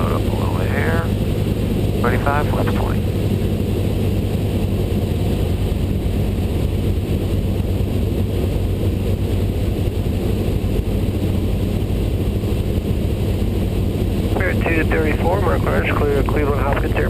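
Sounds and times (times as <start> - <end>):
airflow rushing past cabin: 0.0 - 17.0
airplane engine drone: 0.0 - 17.0.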